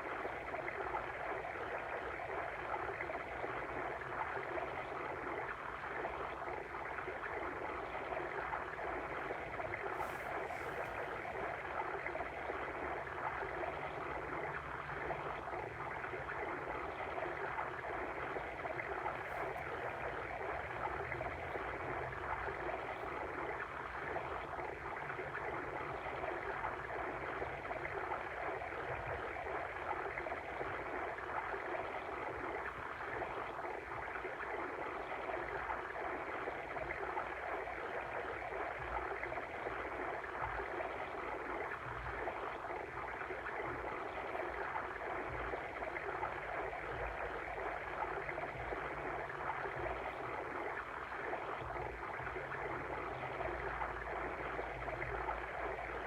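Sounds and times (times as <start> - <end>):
babbling stream: 0.0 - 56.0.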